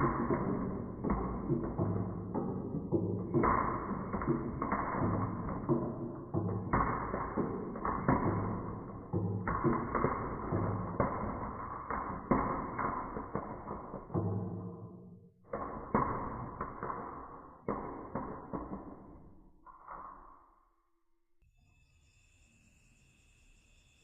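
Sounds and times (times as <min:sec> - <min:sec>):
marbles rolling on wooden track: 0:00.0 - 0:19.8.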